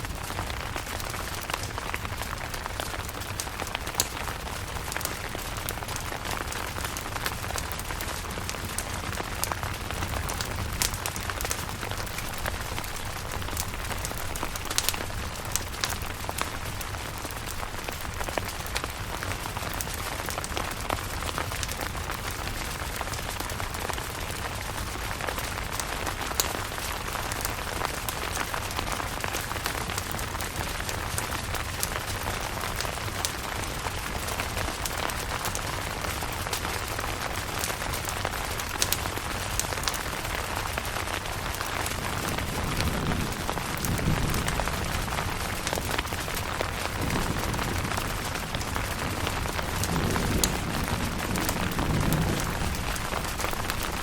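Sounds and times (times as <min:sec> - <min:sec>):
rain pattering on a tent: 0:00.0 - 0:54.0
raindrops ticking on tent: 0:00.0 - 0:54.0.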